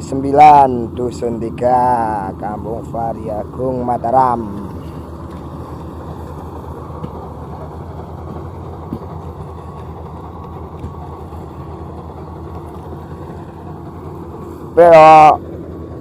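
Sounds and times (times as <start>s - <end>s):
combine harvester engine droning: 0.0s - 16.0s.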